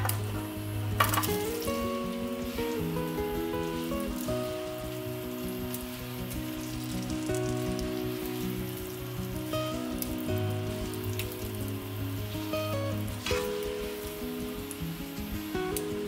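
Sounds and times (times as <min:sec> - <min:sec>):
background music held notes: 0:00.0 - 0:16.0
potatoes sizzling in oil: 0:00.0 - 0:16.0.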